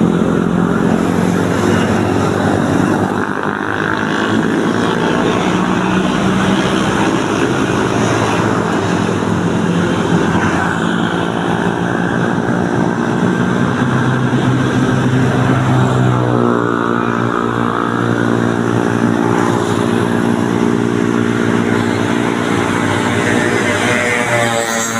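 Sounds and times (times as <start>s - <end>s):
motorcycle and car engines: 0.0s - 24.9s
traffic on wet street: 0.0s - 24.9s.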